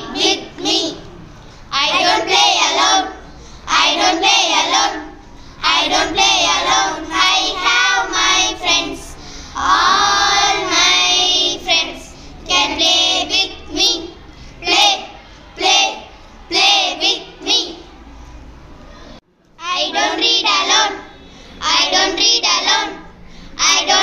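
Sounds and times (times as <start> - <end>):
girls singing together: 0.0 - 18.1, 19.6 - 24.0.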